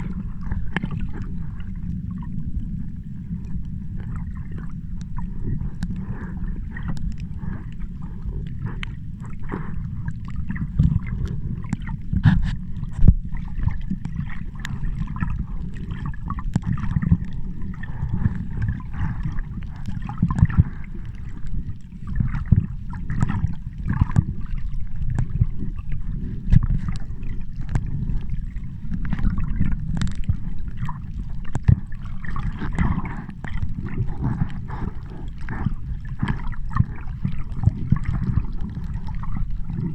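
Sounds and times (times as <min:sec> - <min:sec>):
sea water sloshing and gurgling: 0:00.0 - 0:39.9
steady low rumble: 0:00.0 - 0:39.9.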